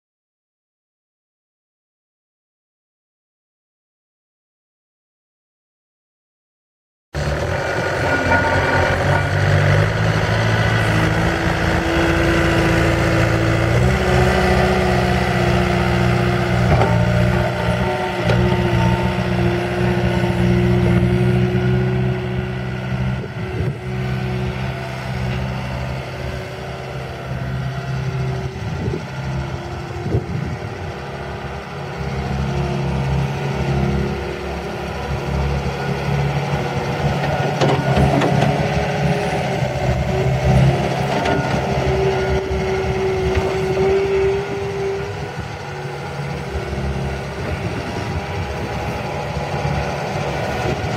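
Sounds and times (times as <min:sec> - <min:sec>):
diesel skid steer engine running: 0:07.2 - 0:50.9.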